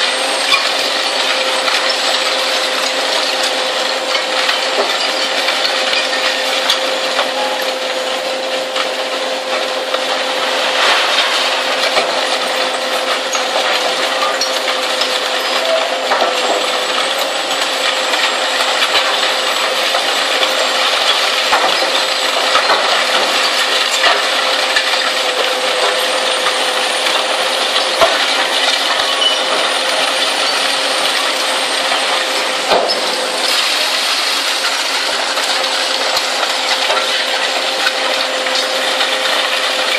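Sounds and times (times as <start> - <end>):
metal pieces clattering and clanking: 0.4 - 7.8, 10.7 - 39.9.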